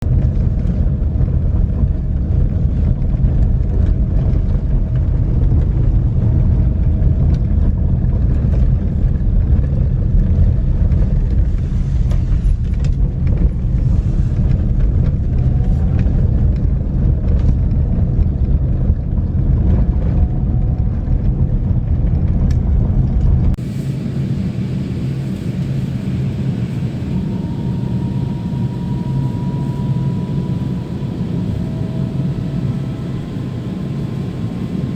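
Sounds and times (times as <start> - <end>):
car cabin road rumble: 0.0 - 34.9
faint whine: 0.1 - 34.9.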